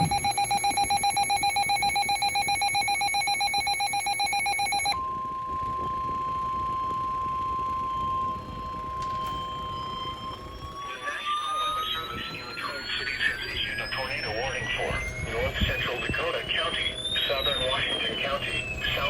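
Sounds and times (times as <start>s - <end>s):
pulsing electronic alarm tone: 0.0s - 19.0s
steady held alarm tone: 0.0s - 19.0s.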